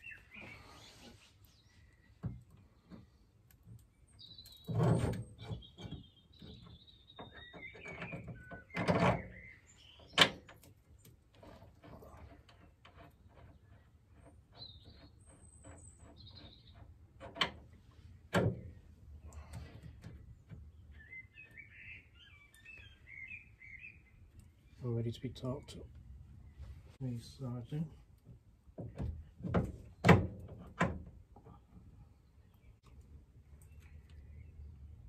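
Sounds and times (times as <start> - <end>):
birds chirping: 0.0 - 11.2, 13.2 - 17.1, 17.8 - 28.0, 31.4 - 35.0.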